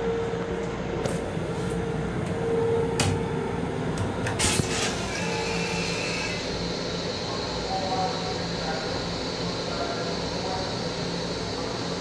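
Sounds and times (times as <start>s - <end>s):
electric railcar hum and rumble: 0.0s - 12.0s.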